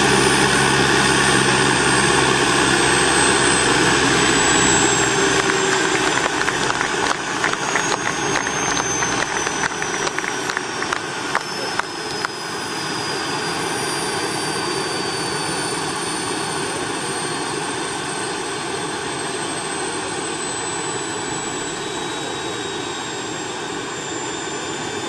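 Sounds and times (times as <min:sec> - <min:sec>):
model turbine engine roar and whine: 0:00.0 - 0:25.0.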